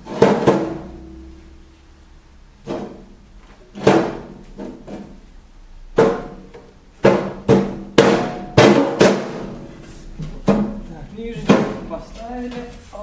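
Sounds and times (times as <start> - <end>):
metal knocks and clanks: 0.0 - 1.6, 2.6 - 5.2, 5.9 - 12.2.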